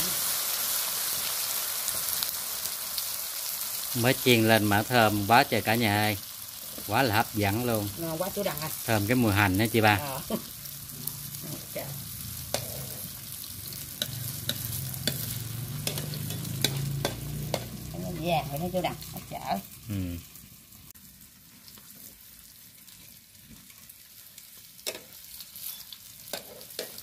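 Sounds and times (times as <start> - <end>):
batter sizzling in hot oil: 0.0 - 27.0.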